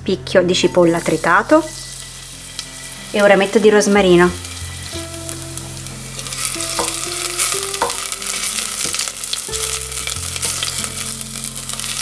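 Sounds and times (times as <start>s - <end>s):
onion sizzling in oil: 0.3s - 12.0s.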